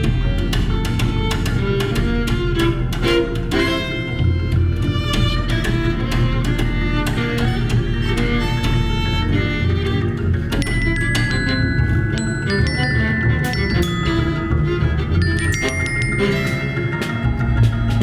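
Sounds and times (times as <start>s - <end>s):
bowed strings: 0.0s - 18.0s
chamber ensemble playing: 0.0s - 18.0s
plucked string notes: 0.0s - 18.0s
steady low bass: 0.0s - 18.0s.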